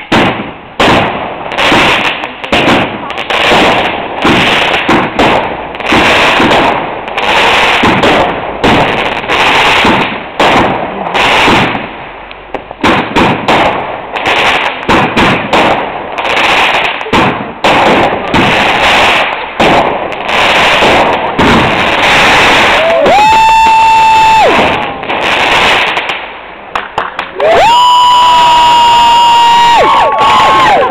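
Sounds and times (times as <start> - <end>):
fireworks bangs and crackles: 0.0 - 30.9.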